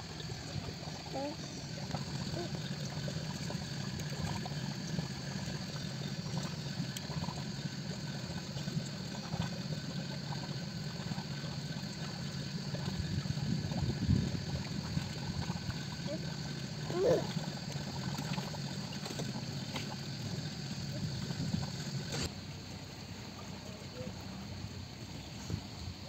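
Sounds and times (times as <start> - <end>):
outboard motor idling: 0.0 - 26.0
water lapping against hull: 0.0 - 26.0.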